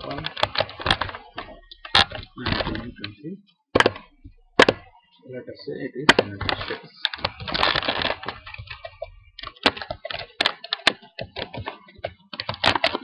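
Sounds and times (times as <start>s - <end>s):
keyboard typing: 0.0s - 3.2s, 3.8s - 5.1s, 6.1s - 13.0s.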